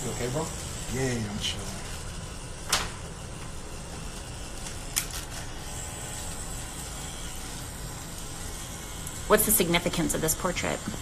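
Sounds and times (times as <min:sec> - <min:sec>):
tattoo machine humming: 0:00.0 - 0:11.0.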